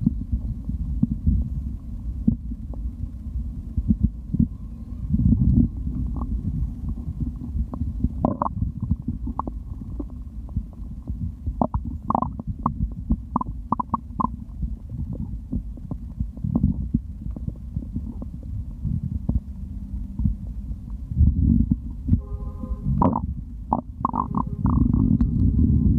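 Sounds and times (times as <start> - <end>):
stomach gurgles and pops: 0.0 - 22.2, 23.0 - 25.9
stomach rumbling: 0.0 - 22.2, 22.8 - 25.9.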